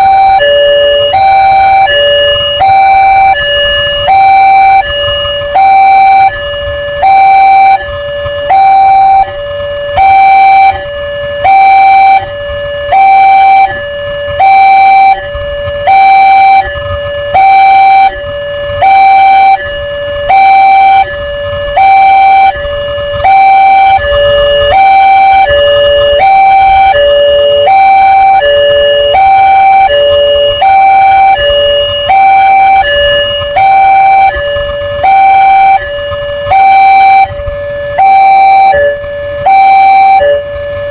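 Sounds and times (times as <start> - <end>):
lower alarm tone: 0.0 - 40.9
two-tone crossing alarm: 0.0 - 40.9.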